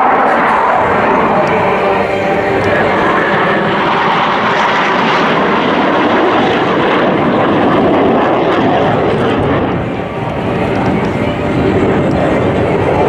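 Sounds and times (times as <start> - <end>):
jets flying overhead: 0.0 - 13.0.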